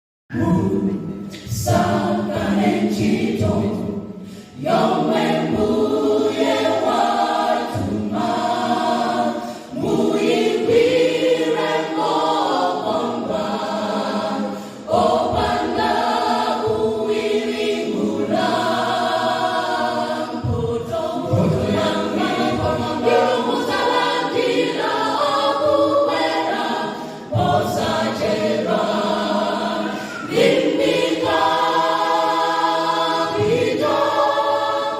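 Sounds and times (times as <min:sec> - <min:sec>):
choir singing gospel song: 0:00.3 - 0:34.9.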